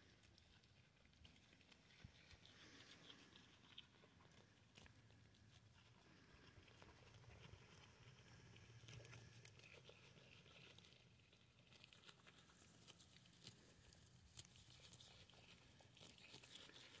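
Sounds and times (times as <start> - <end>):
goat tearing and chewing grass: 0.0 - 17.0
small crackles: 0.0 - 17.0.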